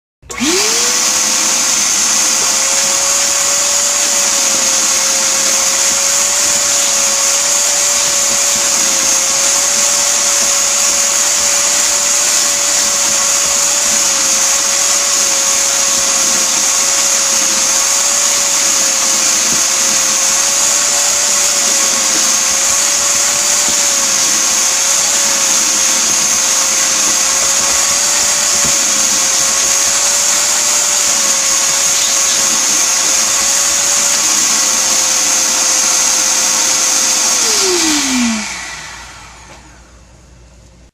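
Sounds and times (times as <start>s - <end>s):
wet dry vacuum running: 0.2s - 40.5s.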